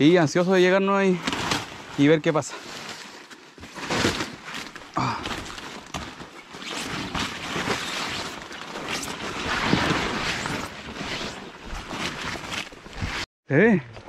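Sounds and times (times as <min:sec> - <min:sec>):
leaves and stems rustling: 0:00.4 - 0:13.3.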